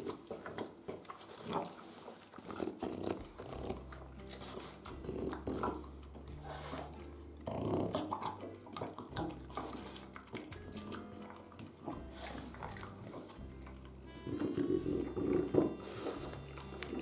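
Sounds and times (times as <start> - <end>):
dog chewing and smacking: 0.0 - 17.0
background music with bass: 3.2 - 17.0.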